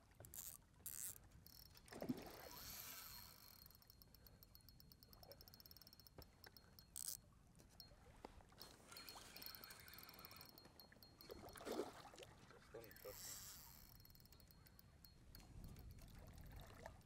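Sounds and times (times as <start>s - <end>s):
fishing reel ticking: 0.0s - 8.0s, 8.6s - 11.6s, 12.8s - 17.0s.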